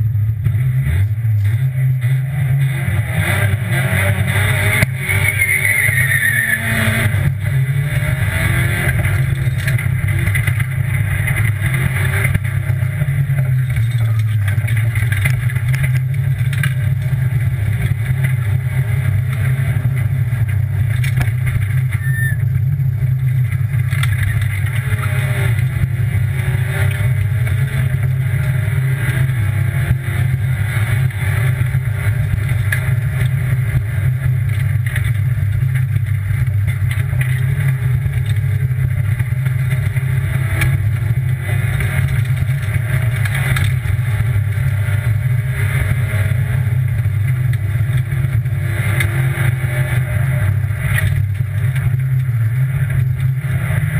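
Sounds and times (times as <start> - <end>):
rally car engine running hard: 0.0 - 53.9.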